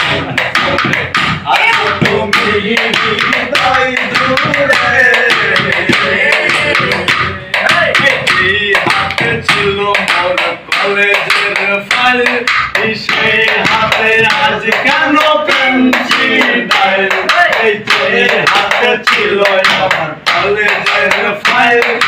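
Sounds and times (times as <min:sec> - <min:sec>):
people singing: 0:00.0 - 0:22.0.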